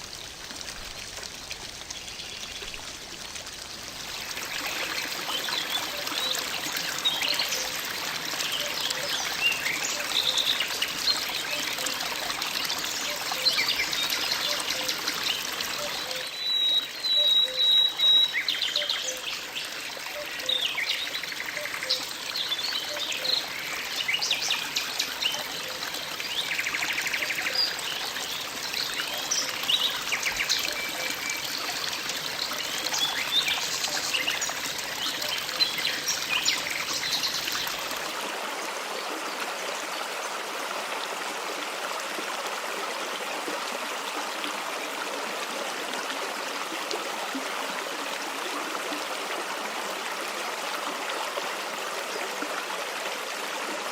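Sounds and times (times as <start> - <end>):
stream running: 0.0 - 53.9.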